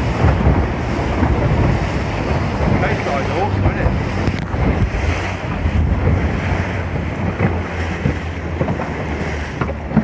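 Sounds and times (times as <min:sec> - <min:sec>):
motor boat engine humming: 0:00.0 - 0:10.0
water slapping against hull: 0:00.0 - 0:10.0
wind buffeting microphone: 0:00.0 - 0:10.0.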